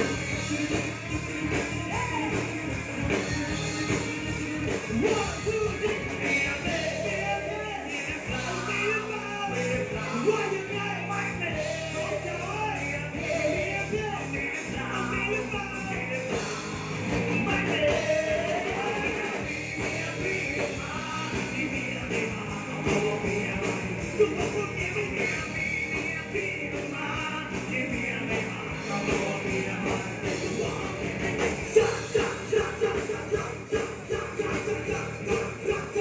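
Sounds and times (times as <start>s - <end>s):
bass guitar: 0.0s - 36.0s
drums: 0.0s - 36.0s
electric guitar: 0.0s - 36.0s
person singing: 0.0s - 36.0s.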